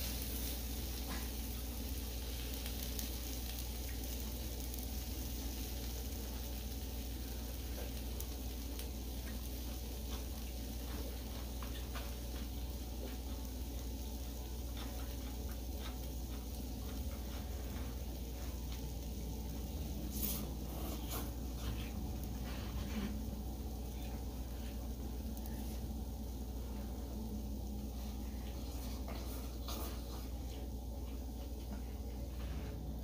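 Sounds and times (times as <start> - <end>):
meat and vegetables sizzling on grill: 0.0 - 33.0.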